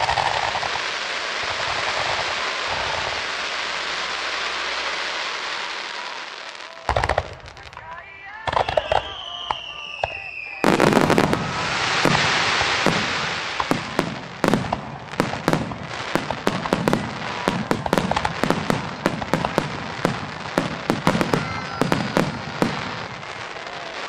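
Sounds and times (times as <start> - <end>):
fireworks crackle: 0.0 - 24.0.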